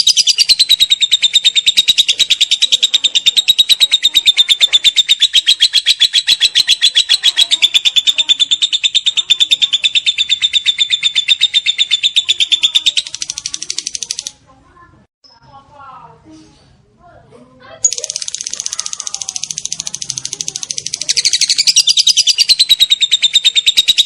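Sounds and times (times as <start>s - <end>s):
lovebird chattering trill: 0.0s - 14.4s, 17.8s - 24.0s.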